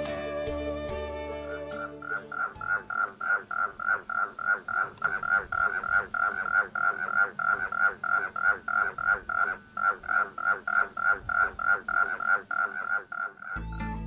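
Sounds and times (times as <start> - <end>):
frogs croaking: 1.8 - 13.7.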